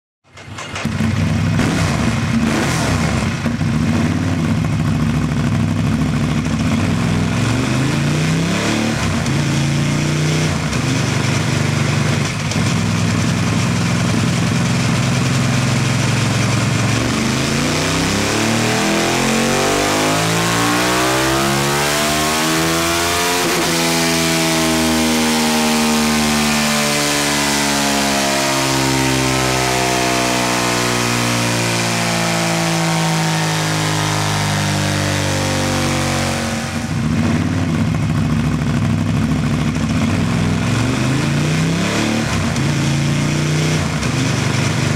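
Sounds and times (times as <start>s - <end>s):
motorcycle engine revving: 0.3s - 44.9s.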